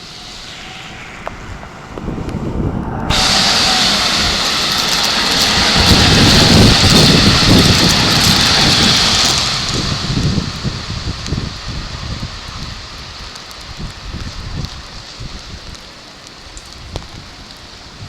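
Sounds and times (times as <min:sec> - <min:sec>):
train passing close by: 0:00.0 - 0:14.6.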